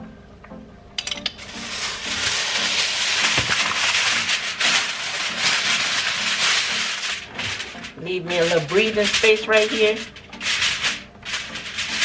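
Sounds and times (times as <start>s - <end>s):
aluminum foil crinkling: 1.4s - 12.0s.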